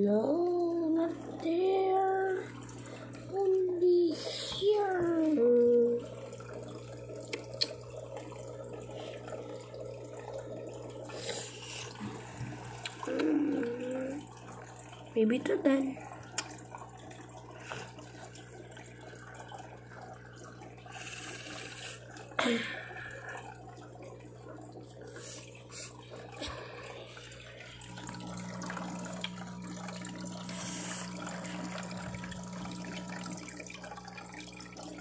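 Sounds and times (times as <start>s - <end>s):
low pump hum: 0.0s - 35.0s
water trickling and splashing: 0.0s - 35.0s.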